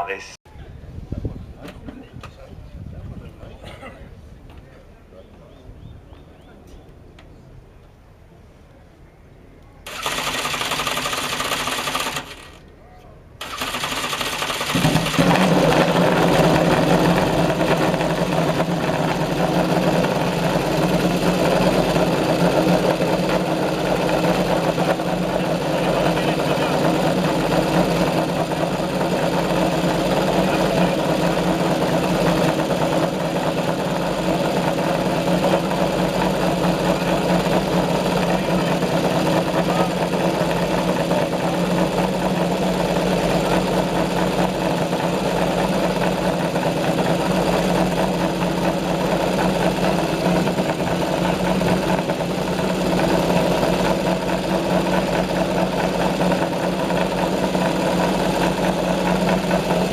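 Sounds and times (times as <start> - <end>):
motorcycle engine idling: 9.9 - 12.6, 13.4 - 59.9.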